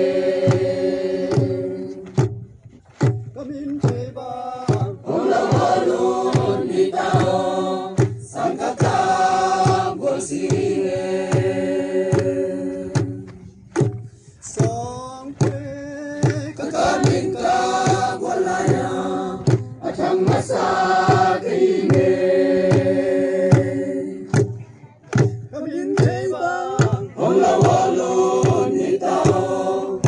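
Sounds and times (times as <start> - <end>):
voices singing in chorus: 0.0 - 2.3, 3.4 - 13.8, 16.2 - 24.6, 25.6 - 30.0
steady drum beat: 0.0 - 30.0.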